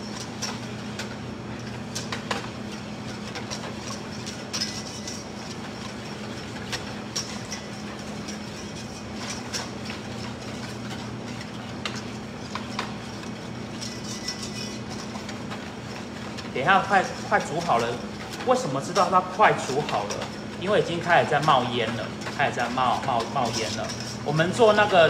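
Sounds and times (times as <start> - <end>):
whisk scraping a metal bowl: 0.0 - 25.0.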